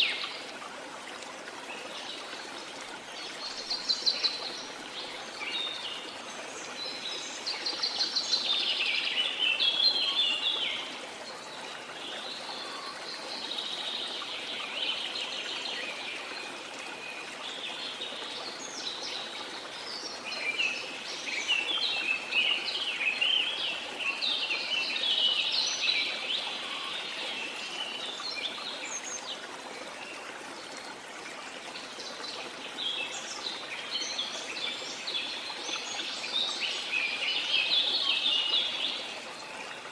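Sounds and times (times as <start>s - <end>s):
flowing stream water: 0.0s - 39.9s.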